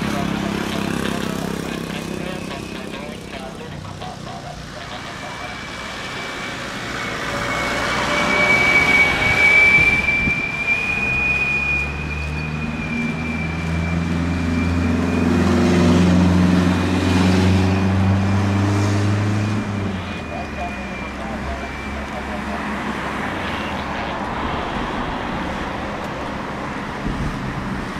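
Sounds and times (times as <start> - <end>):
deep engine rumble: 0.0 - 27.9
jet engines high whine: 0.0 - 27.9.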